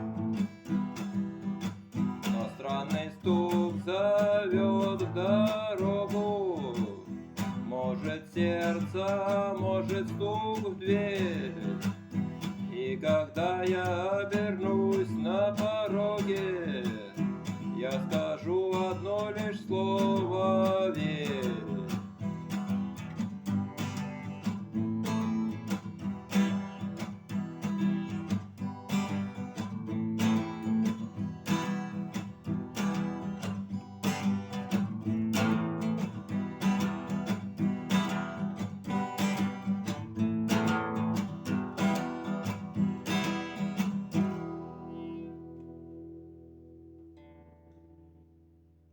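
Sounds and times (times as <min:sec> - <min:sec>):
acoustic guitar strumming chords: 0:00.0 - 0:48.7.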